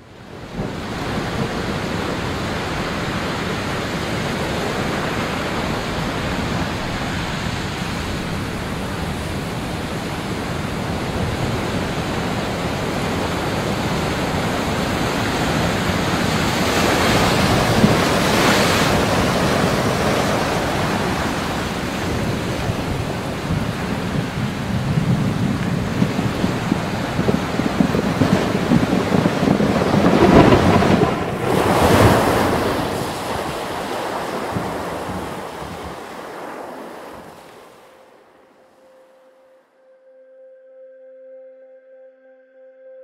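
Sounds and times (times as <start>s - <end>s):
wind rushing over microphone: 0.0s - 37.9s
sea surf: 0.0s - 39.5s.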